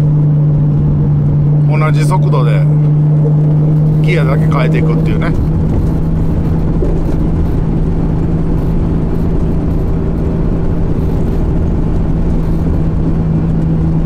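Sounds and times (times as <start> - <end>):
car engine running steadily: 0.0 - 14.0.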